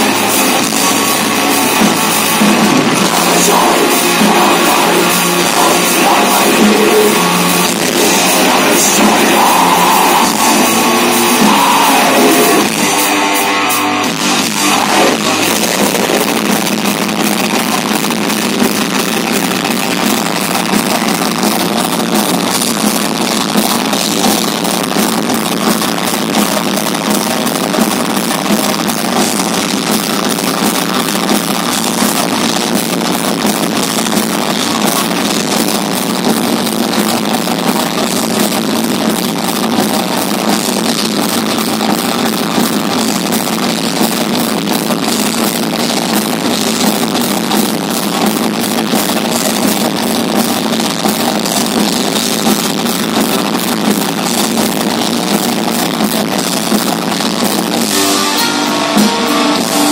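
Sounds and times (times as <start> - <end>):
distorted electric guitars: 0.0 - 59.9
rapid drumming: 0.0 - 59.9.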